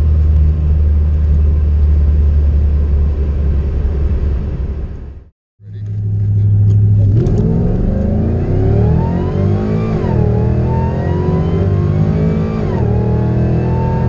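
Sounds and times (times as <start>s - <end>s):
truck engine accelerating hard: 0.0s - 14.0s.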